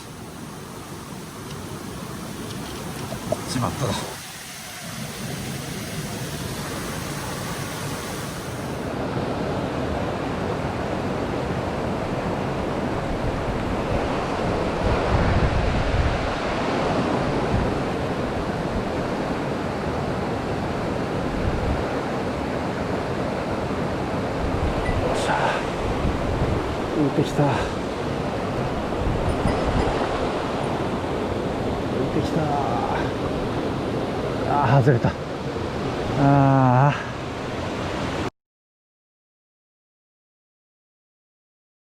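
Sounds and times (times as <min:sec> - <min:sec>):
stream water rushing over rocks: 0:00.0 - 0:38.3.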